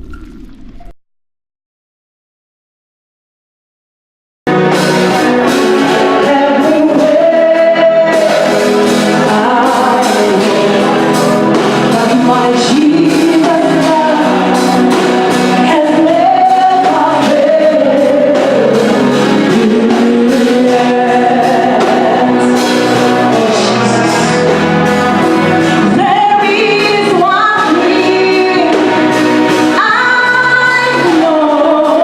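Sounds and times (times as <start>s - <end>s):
music with singing voices: 4.5s - 32.0s.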